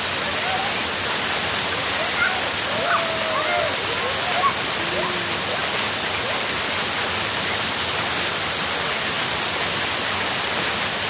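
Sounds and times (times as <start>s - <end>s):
waterfall crashing: 0.0s - 11.0s.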